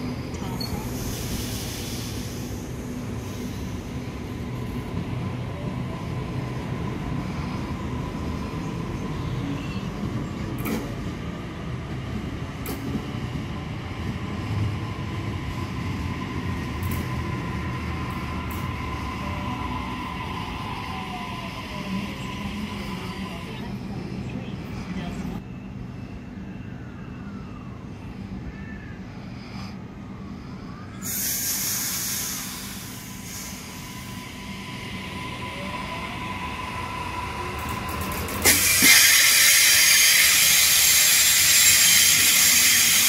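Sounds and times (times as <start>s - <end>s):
train wheels rumbling on rail: 0.0s - 25.4s, 31.0s - 43.0s
train whine: 0.0s - 43.0s.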